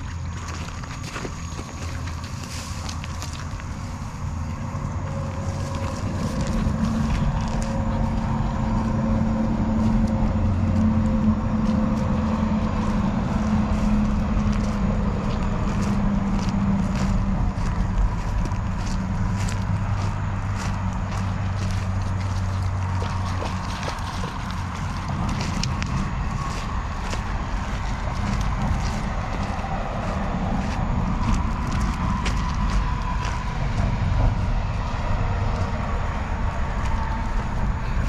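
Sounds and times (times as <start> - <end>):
motor engine humming: 0.0 - 38.0.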